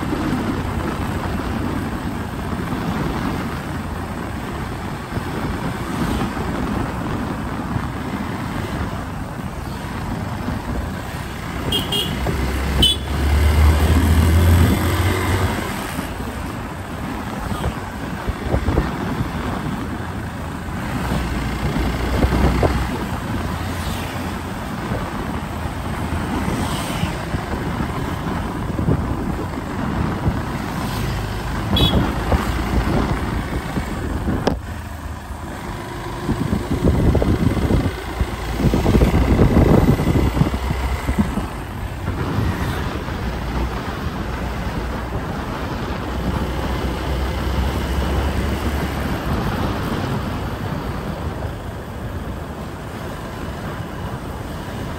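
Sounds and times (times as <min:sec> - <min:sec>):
road and engine noise: 0:00.0 - 0:54.9.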